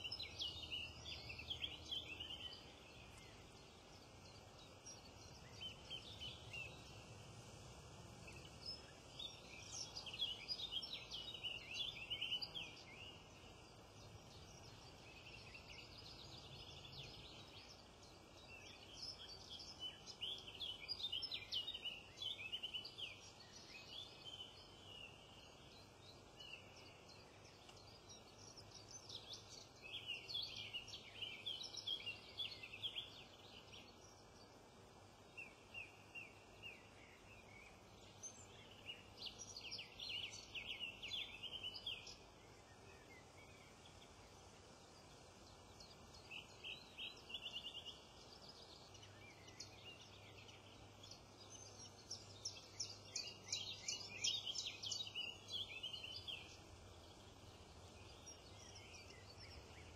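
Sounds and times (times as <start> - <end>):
faint outdoor ambience: 0.0 - 59.9
small birds chirping: 0.0 - 59.9.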